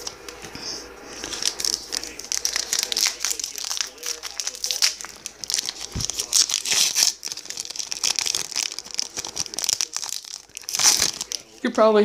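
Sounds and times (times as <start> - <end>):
wrapper crinkling and tearing: 1.1 - 11.7.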